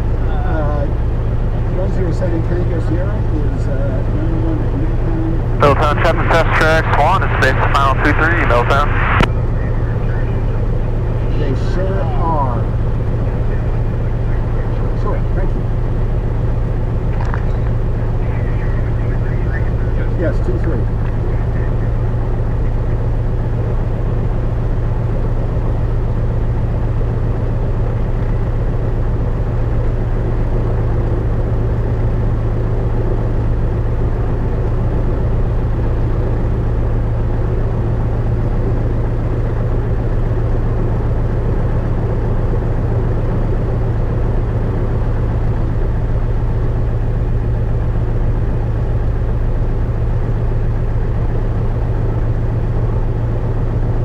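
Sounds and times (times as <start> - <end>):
airplane engine drone in cabin: 0.0 - 54.0.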